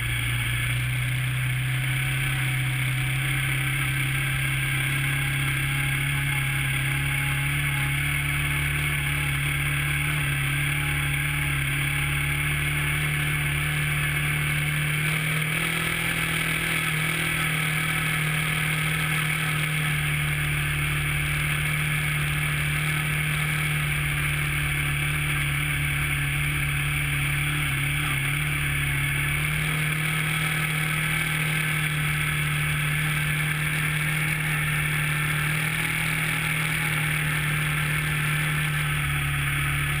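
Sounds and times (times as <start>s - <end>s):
road noise: 0.0s - 40.0s
vehicle engine drone: 0.0s - 40.0s.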